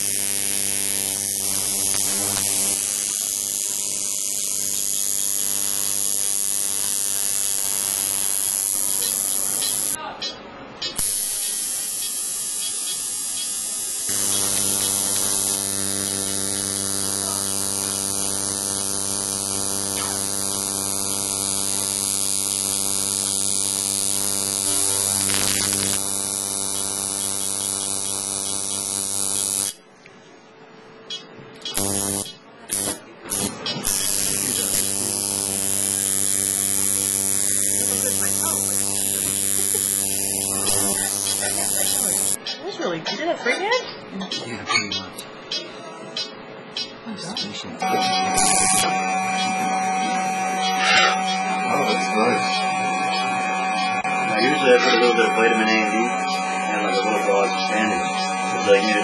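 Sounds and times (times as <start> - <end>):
tattoo machine buzzing: 0.0 - 10.0, 11.0 - 29.9, 31.1 - 42.5, 47.8 - 59.0.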